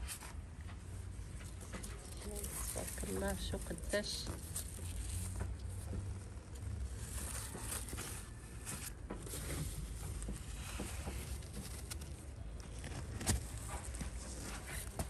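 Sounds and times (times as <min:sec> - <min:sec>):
gloved hands handling fruit: 0:00.0 - 0:15.0
leaves rustling: 0:01.2 - 0:15.0.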